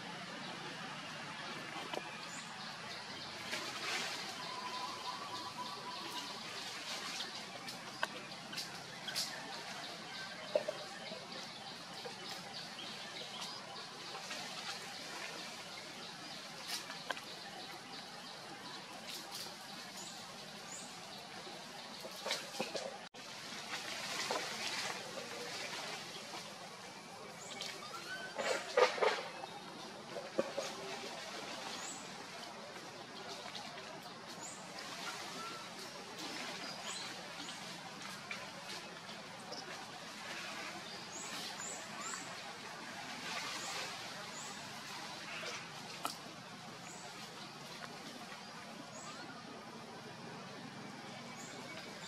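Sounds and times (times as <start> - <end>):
forest background hiss: 0.0 - 52.0
outdoor background noise: 0.0 - 52.0.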